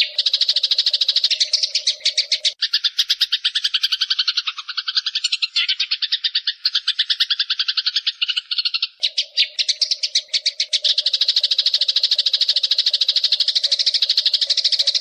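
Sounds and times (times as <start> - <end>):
sparrow chattering call: 0.0 - 15.0.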